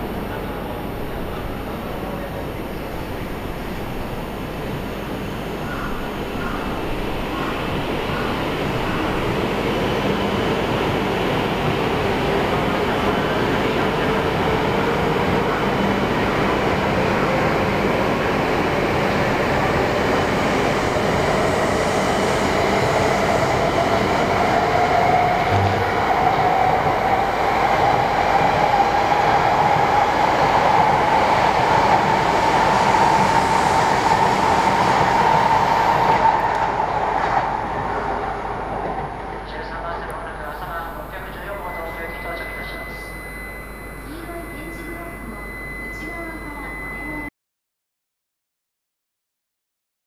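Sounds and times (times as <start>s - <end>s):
train traction motor whine: 0.0s - 39.4s, 40.6s - 47.2s
train running noise: 0.0s - 47.2s.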